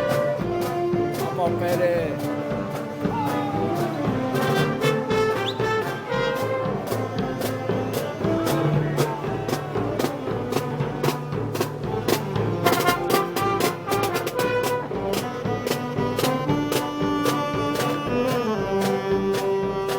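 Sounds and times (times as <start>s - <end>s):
brass band playing: 0.0s - 19.9s
steady drum beat: 0.0s - 19.9s.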